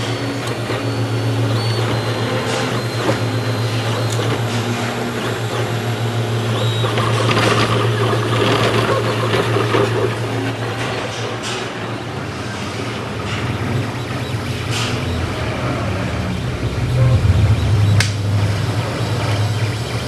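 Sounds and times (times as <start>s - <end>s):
cooling fans humming: 0.0s - 20.0s
stepper motors whining: 0.0s - 20.0s.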